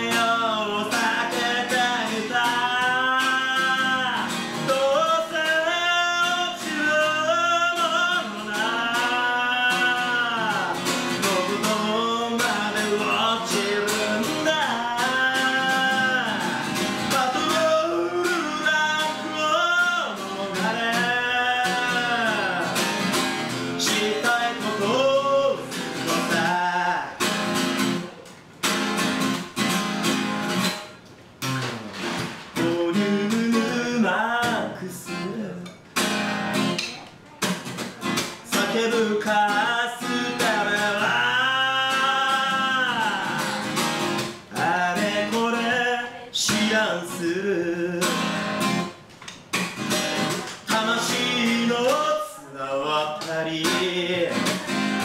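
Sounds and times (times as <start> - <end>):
man singing: 0.0 - 28.2, 32.5 - 35.8, 37.4 - 48.9, 50.1 - 55.0
strummed acoustic guitar: 0.0 - 55.0.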